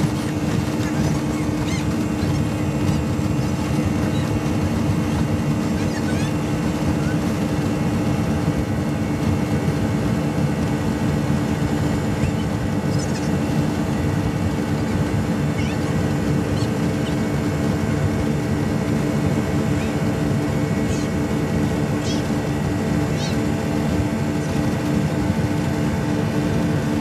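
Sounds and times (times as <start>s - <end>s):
outboard engines droning: 0.0s - 27.0s.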